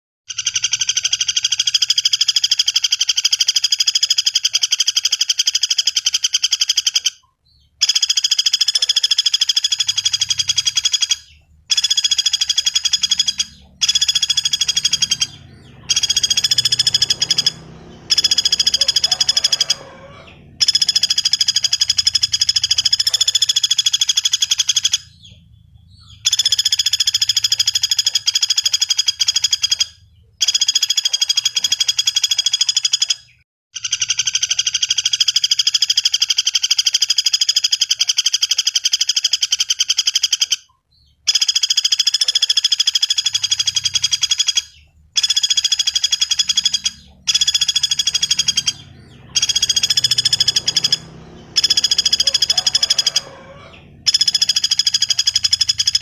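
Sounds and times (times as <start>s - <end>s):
woodpecker rattling trills: 0.3s - 56.0s.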